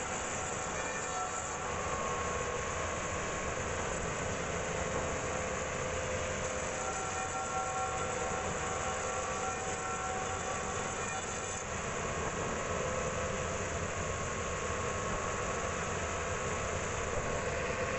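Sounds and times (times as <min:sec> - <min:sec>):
band saw running: 0:00.0 - 0:17.9
thin high whine: 0:00.0 - 0:17.9.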